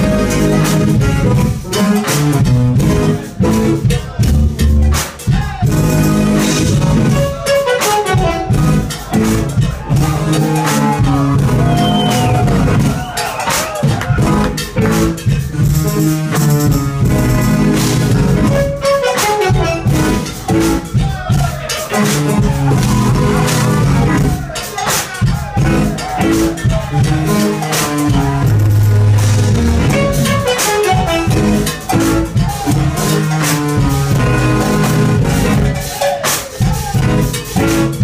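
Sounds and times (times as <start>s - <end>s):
drum kit: 0.0s - 38.0s
jazz-funk band playing: 0.0s - 38.0s.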